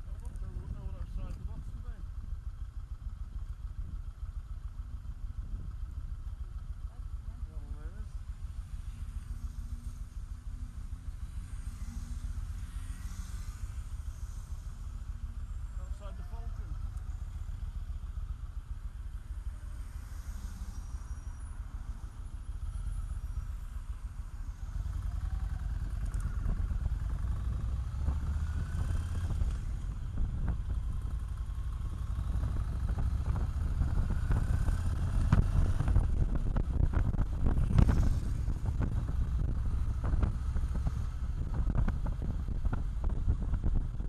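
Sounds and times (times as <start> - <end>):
motorcycle engine rumbling: 0.0 - 44.0.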